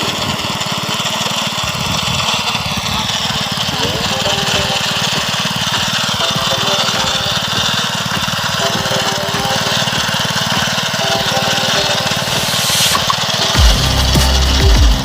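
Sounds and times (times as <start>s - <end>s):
hand tractor engine running: 0.0s - 15.0s.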